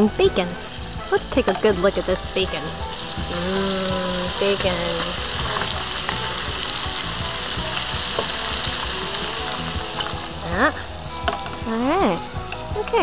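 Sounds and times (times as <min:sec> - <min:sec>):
bacon sizzling in a frying pan: 0:00.0 - 0:13.0.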